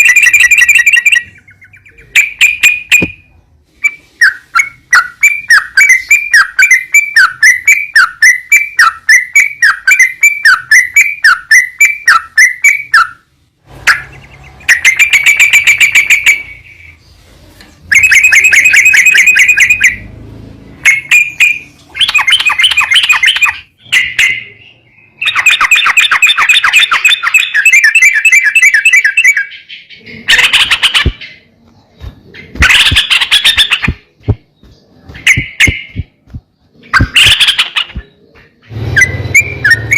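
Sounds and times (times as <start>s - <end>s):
bird chattering trills and calls: 0.0s - 13.2s, 13.9s - 17.1s, 17.9s - 20.1s, 20.8s - 39.9s
bird chirping: 0.0s - 39.9s.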